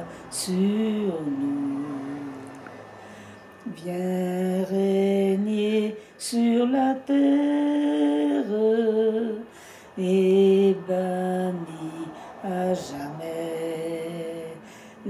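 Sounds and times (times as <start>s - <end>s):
elderly woman singing: 0.0s - 2.8s, 3.5s - 15.0s.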